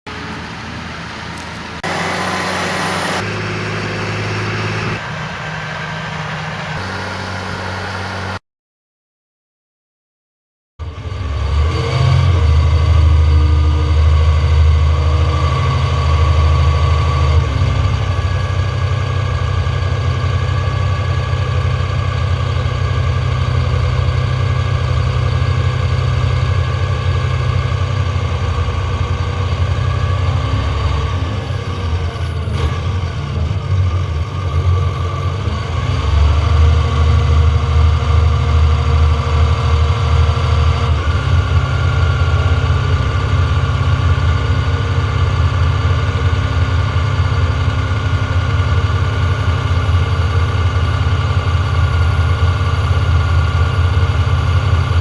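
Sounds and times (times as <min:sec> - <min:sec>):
tractor diesel engine under load: 0:00.1 - 0:08.4, 0:10.8 - 0:55.0.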